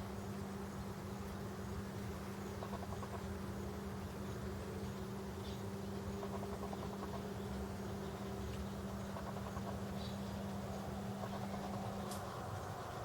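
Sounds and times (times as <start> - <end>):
birds chirping in trills: 0.0 - 13.0
steady low hum: 0.0 - 13.0.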